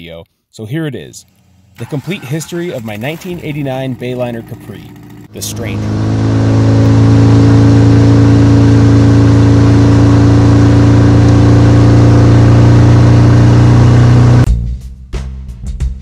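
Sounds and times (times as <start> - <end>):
boat engine running: 1.4 - 14.5.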